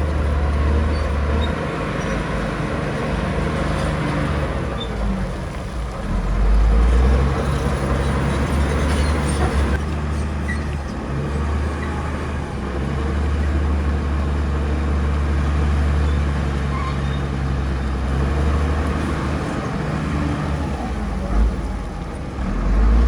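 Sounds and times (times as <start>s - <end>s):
diesel engine low drone: 0.0s - 23.0s.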